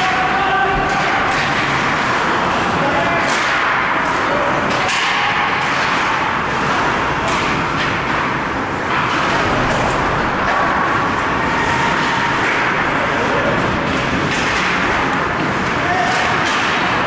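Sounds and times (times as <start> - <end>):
hockey sticks or puck clacking: 0.0 - 17.0
ice rink crowd din: 0.0 - 17.0.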